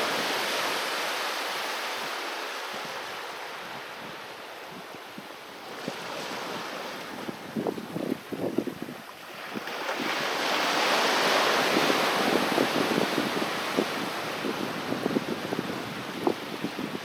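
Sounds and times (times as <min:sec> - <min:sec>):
sea wave washing up beach: 0:00.0 - 0:04.8, 0:05.5 - 0:17.0.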